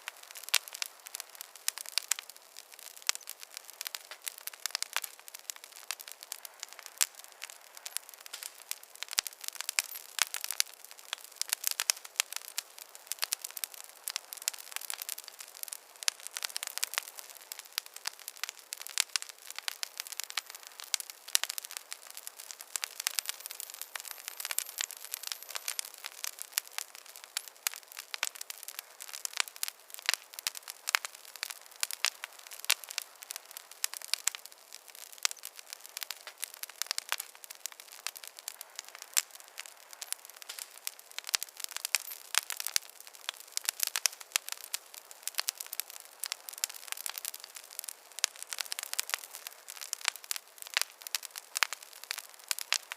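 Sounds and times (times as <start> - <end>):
fireplace fire crackling: 0.0 - 52.9.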